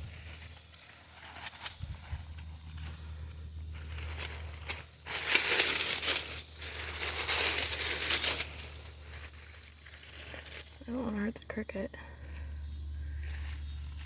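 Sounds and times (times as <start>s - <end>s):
vines rustling as torn out: 0.0s - 11.2s, 12.2s - 14.0s.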